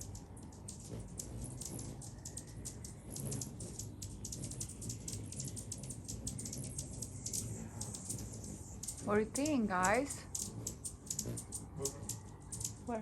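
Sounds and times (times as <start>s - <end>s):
hummingbirds chipping: 0.0s - 13.0s.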